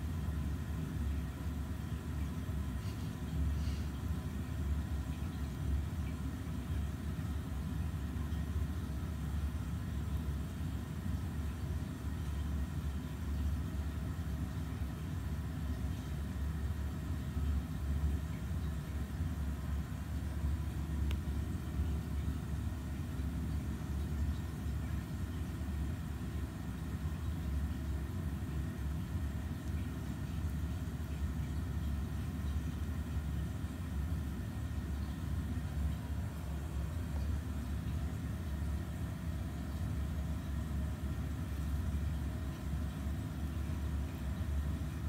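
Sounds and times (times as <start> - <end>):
low background rumble: 0.0 - 45.0.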